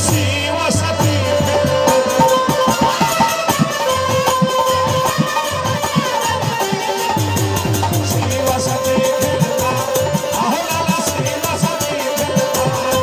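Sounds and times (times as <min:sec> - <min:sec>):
instrumental folk music: 0:00.0 - 0:13.0.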